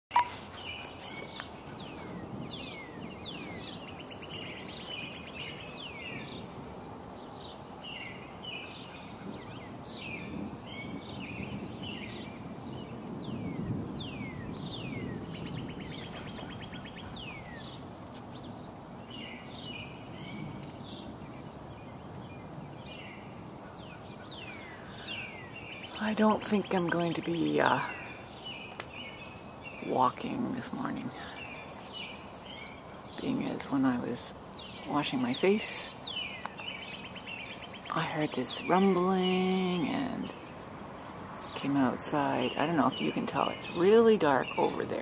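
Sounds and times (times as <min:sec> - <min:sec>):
birds calling and singing: 0:00.1 - 0:45.0.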